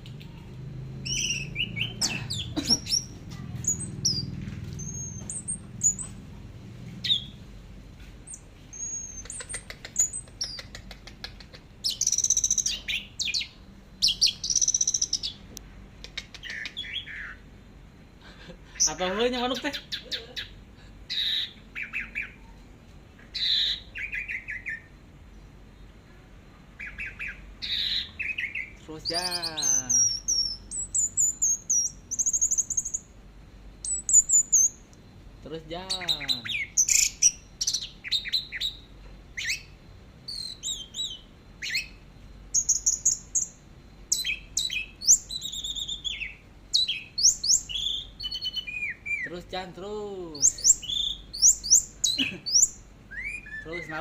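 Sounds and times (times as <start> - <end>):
bird singing: 0.0 - 7.5, 8.2 - 10.8, 11.8 - 17.8, 18.7 - 22.6, 23.2 - 33.2, 33.8 - 54.0.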